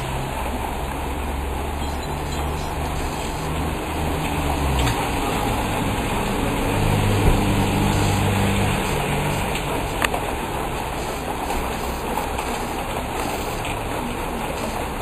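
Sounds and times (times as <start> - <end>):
cars passing on wet road: 0.0 - 15.0
rain falling: 0.0 - 15.0.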